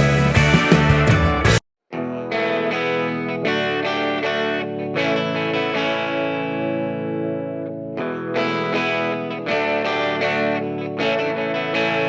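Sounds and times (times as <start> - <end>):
guitar chords with effects: 0.0 - 12.0.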